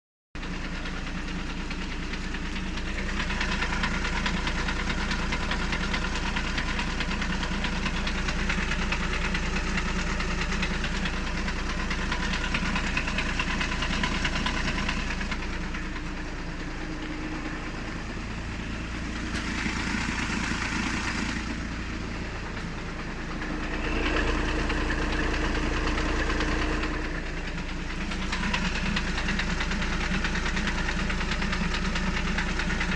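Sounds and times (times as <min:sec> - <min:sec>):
diesel engine running with knock: 0:00.4 - 0:32.9.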